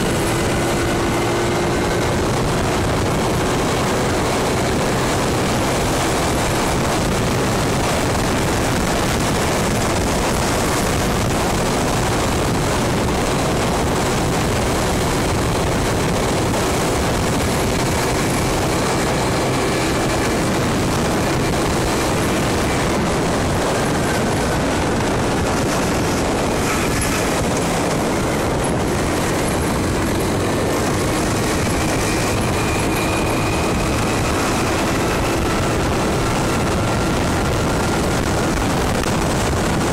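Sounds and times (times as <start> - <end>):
scooter engine running: 0.0 - 39.9
wind noise on microphone: 0.0 - 39.9.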